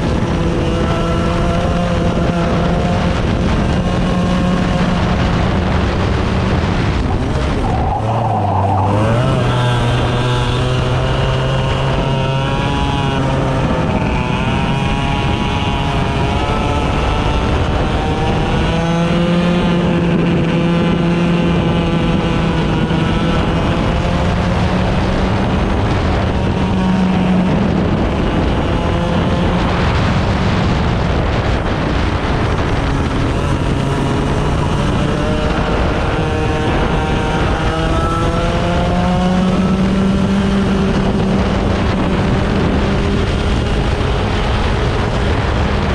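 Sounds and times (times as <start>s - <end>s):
racing engine revving: 0.0s - 45.9s
wind noise on microphone: 0.0s - 45.9s.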